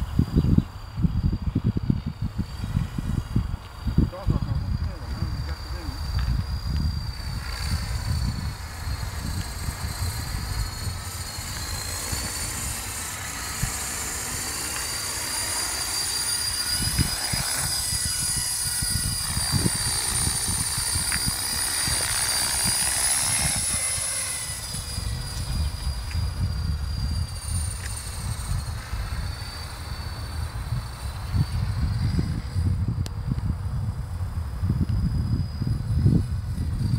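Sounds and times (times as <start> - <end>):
rc helicopter whine: 0.0 - 36.9
wind rumbling on microphone: 0.0 - 36.9.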